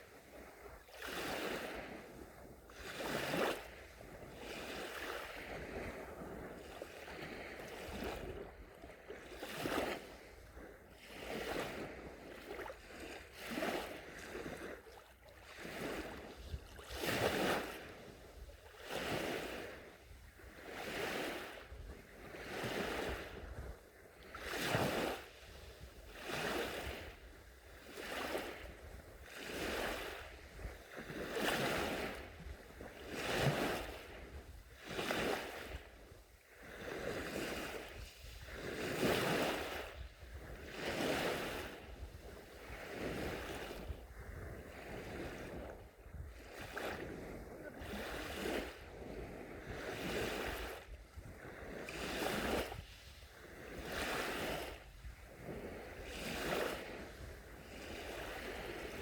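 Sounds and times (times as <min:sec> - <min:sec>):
small waves washing onto beach: 0:00.0 - 0:59.0.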